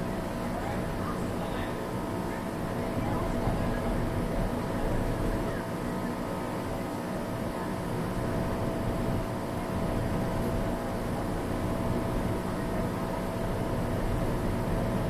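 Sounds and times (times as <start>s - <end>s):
background rumble and murmur: 0.0s - 15.0s
faint steady hums: 0.0s - 15.0s.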